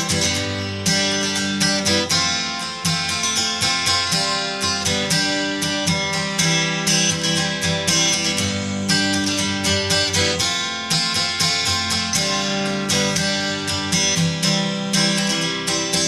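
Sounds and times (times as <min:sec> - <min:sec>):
guitar picked and strummed: 0:00.0 - 0:16.0.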